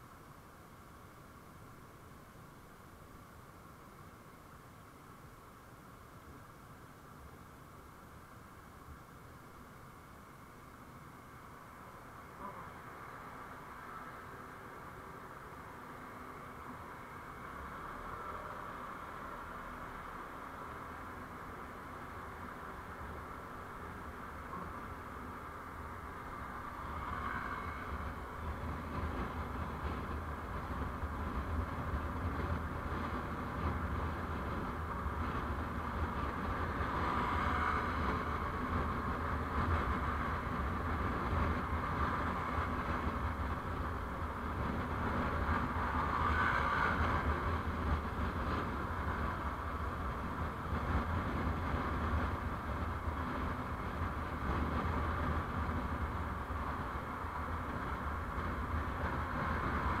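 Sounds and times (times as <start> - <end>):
vehicle road noise rumble: 0.0 - 60.0
wind hiss: 0.0 - 60.0.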